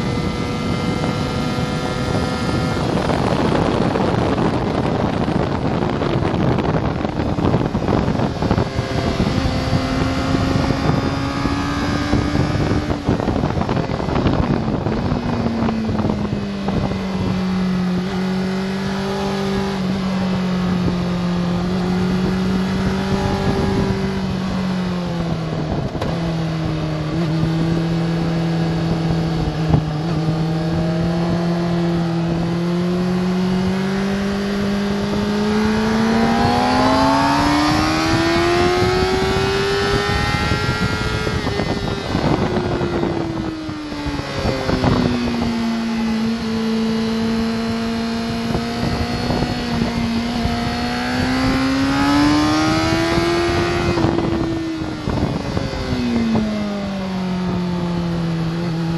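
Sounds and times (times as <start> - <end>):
heavy wind rush: 0.0 - 58.9
motorcycle engine: 0.0 - 58.9.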